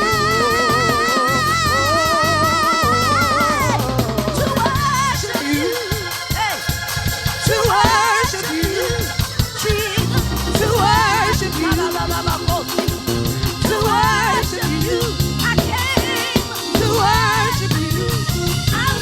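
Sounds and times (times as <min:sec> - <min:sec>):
person singing: 0:00.0 - 0:06.6, 0:07.5 - 0:19.0
band playing bass and drums: 0:00.0 - 0:19.0.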